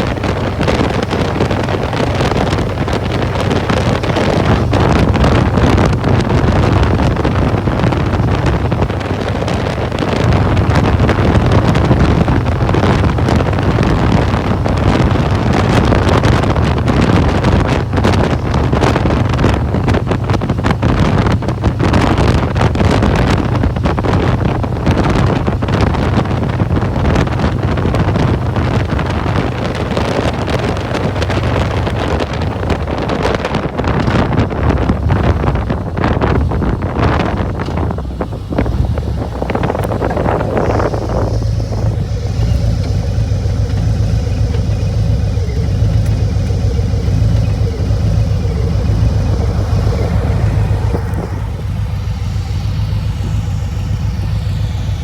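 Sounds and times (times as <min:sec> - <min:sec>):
motorcycle engine drone: 0:00.0 - 0:55.0
wind buffeting microphone: 0:00.0 - 0:55.0.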